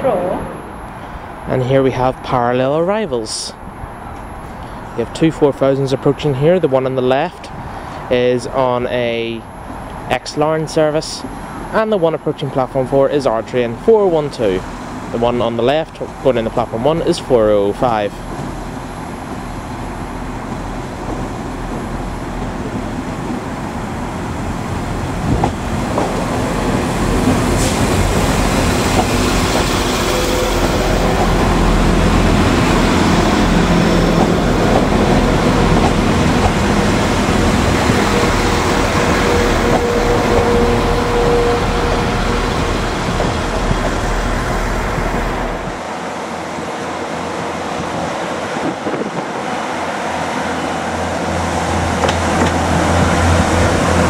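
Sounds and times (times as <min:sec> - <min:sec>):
train engine and wheel rumble: 0:00.0 - 0:54.0.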